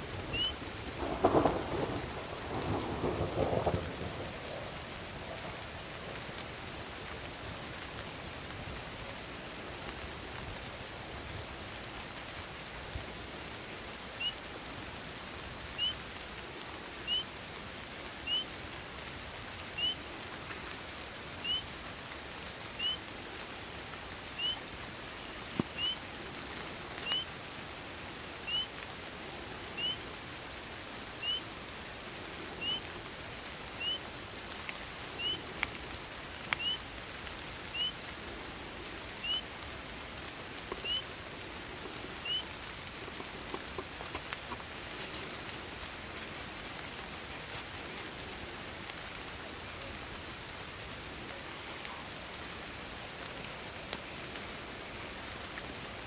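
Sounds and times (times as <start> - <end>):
rain and wind hiss: 0.0 - 56.0.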